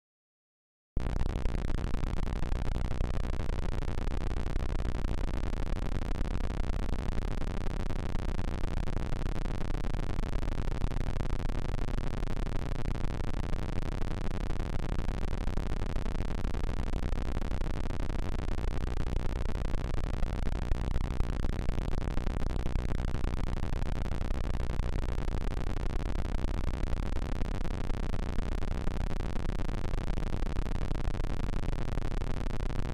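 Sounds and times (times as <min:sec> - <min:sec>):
harsh distorted static noise: 0:01.0 - 0:32.9.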